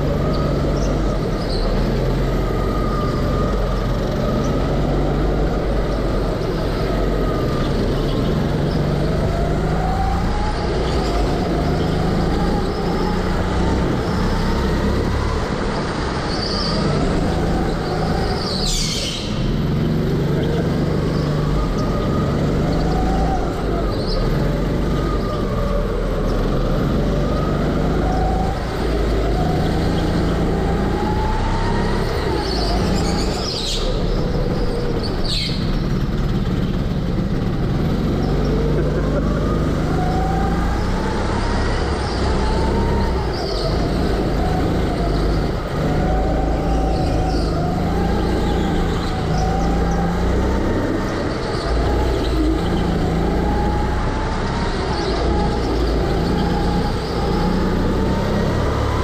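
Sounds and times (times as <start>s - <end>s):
go-kart motor revving: 0.0s - 59.0s
other karts running: 0.0s - 59.0s.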